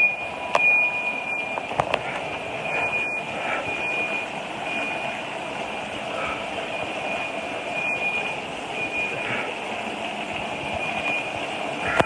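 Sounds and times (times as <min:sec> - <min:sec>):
high-pitched electronic alarm tone: 0:00.0 - 0:09.7, 0:10.5 - 0:12.0
steady rushing noise: 0:00.0 - 0:12.0.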